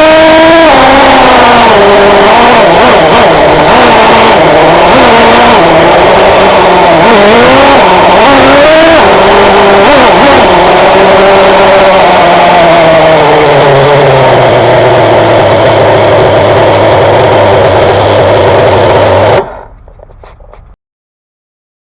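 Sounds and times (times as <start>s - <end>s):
nitro engine revving: 0.0s - 20.8s.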